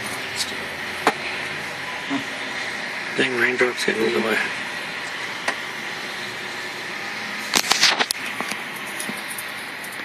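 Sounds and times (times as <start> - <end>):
freeway traffic hiss: 0.0 - 10.0.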